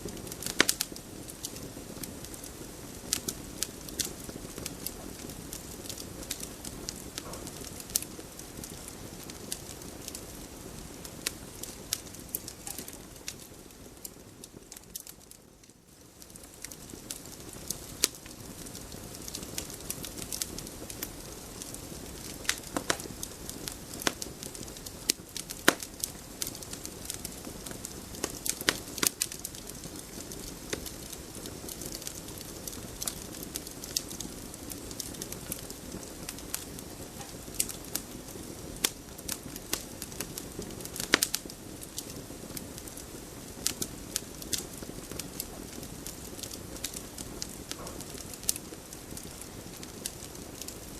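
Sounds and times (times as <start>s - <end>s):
campfire flames rushing: 0.0s - 50.9s
fire crackles and pops: 0.0s - 50.9s.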